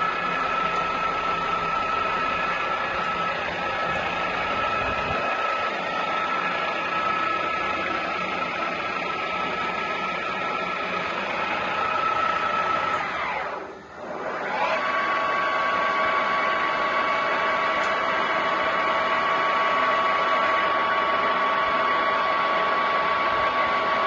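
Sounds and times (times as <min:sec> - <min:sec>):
lathe running with high whine: 0:00.0 - 0:24.0.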